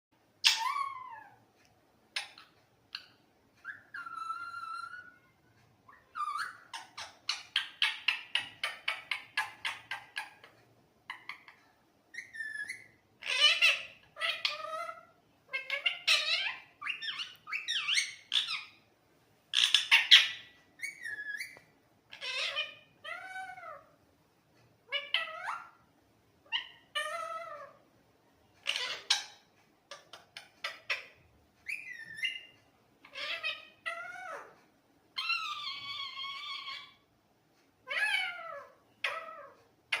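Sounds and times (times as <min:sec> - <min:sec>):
parrot calling and chattering: 0:00.4 - 0:01.4, 0:02.1 - 0:18.9, 0:19.5 - 0:24.0, 0:24.8 - 0:27.8, 0:28.6 - 0:37.1, 0:37.8 - 0:40.0.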